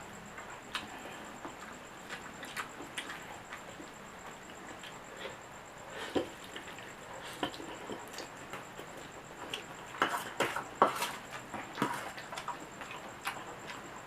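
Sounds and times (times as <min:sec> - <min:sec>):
person chewing noodles: 0:00.4 - 0:13.9.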